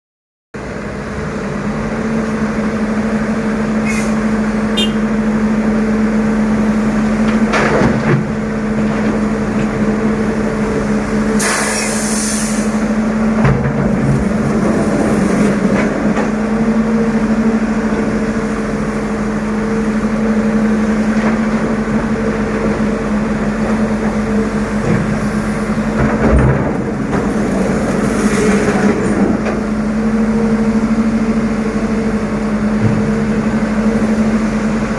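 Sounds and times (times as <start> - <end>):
excavator diesel engine running: 0.6 - 34.9.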